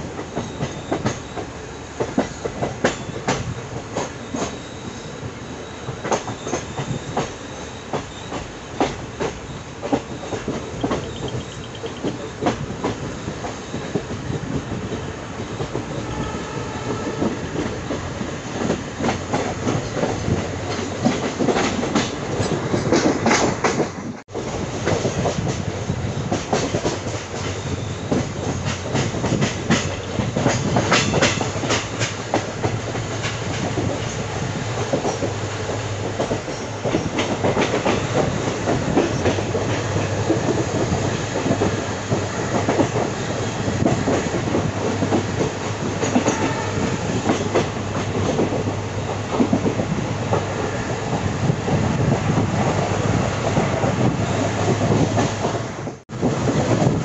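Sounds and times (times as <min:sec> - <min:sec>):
train wheels clattering over rail joints: 0:00.0 - 0:16.1, 0:17.1 - 0:57.0.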